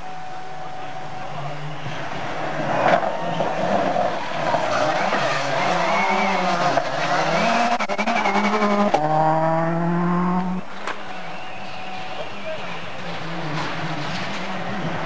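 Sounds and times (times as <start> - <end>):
rally car engine at full speed: 0.0 - 15.0.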